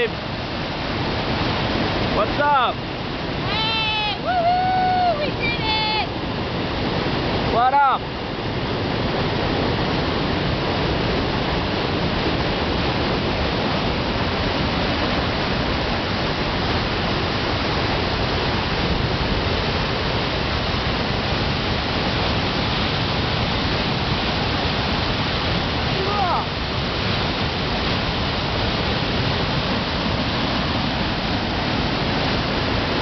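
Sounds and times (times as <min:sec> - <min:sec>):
waterfall crashing over rocks: 0:00.0 - 0:33.0.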